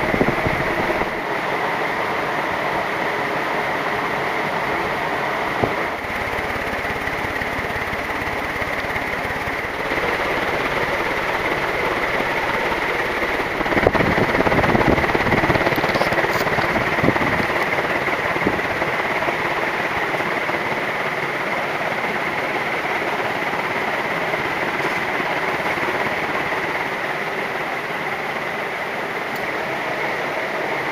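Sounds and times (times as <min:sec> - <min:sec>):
ceiling fan rushing air: 0:00.0 - 0:30.9.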